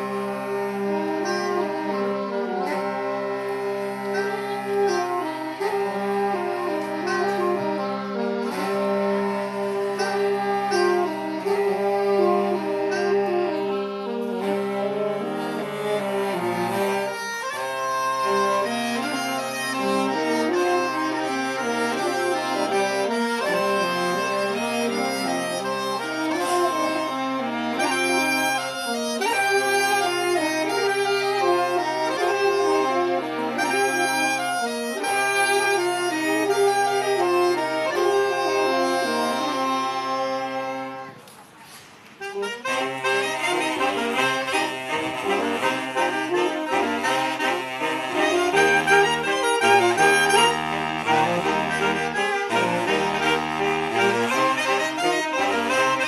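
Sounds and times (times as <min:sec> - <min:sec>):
reed wind instrument folk music: 0:00.0 - 0:56.0.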